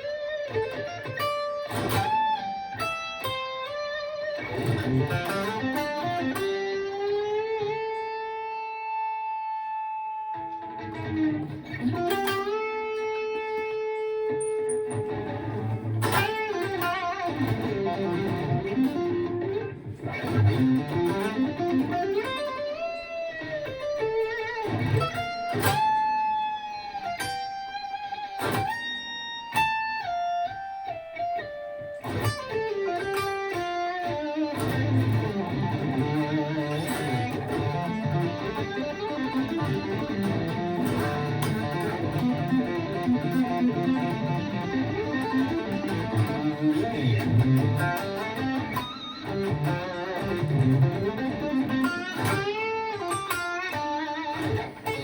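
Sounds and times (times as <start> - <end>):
electric guitar through an amp: 0.0 - 55.0.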